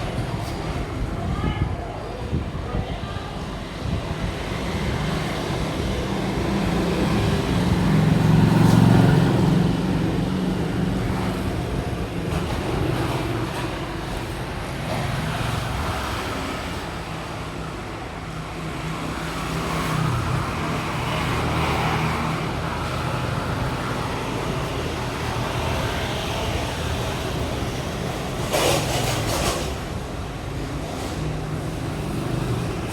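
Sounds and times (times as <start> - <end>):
motor vehicles rumbling past: 3.6 - 32.9.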